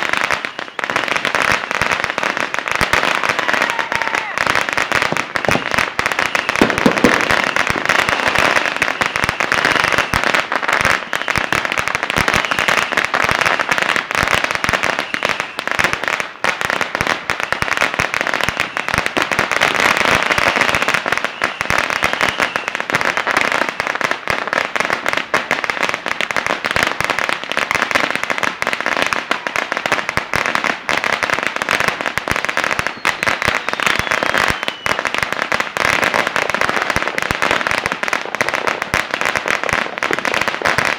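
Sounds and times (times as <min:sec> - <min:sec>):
firecrackers crackling: 0:00.0 - 0:40.9.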